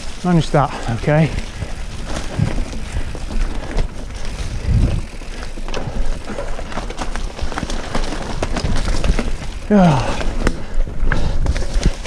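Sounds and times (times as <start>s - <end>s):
bike chain and frame rattling: 0.0s - 12.0s
bike tyres rumbling over dirt: 0.0s - 12.0s.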